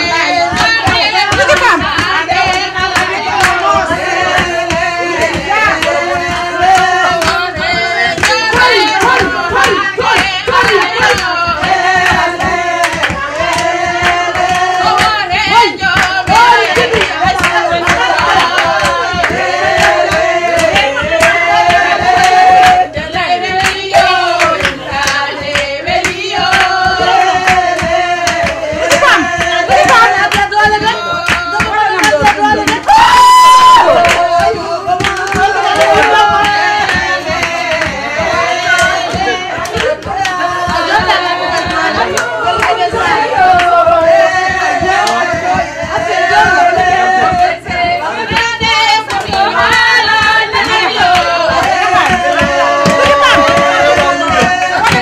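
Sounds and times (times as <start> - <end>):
hand clapping: 0.0 - 55.0
women singing: 0.0 - 55.0.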